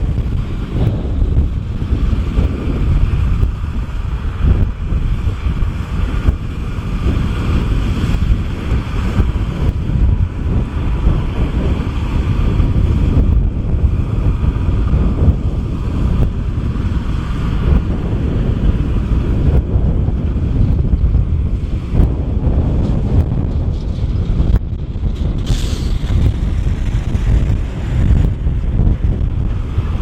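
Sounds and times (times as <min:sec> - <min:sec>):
tractor diesel engine running: 0:00.0 - 0:30.0
wind buffeting microphone: 0:00.0 - 0:30.0.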